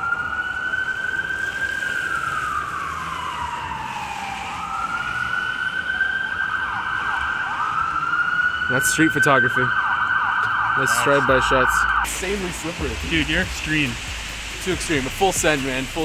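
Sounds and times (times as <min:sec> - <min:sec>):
emergency siren wailing: 0:00.0 - 0:13.7.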